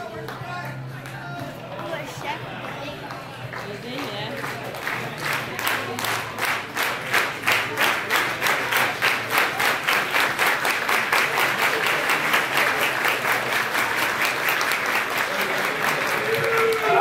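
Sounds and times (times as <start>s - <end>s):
crowd clapping in unison: 0.0s - 17.0s.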